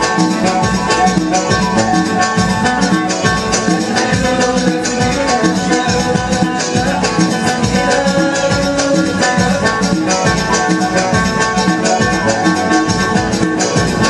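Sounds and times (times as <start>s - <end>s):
banjo melody: 0.0s - 14.0s
fast driving percussion: 0.0s - 14.0s
keyboard: 0.0s - 14.0s.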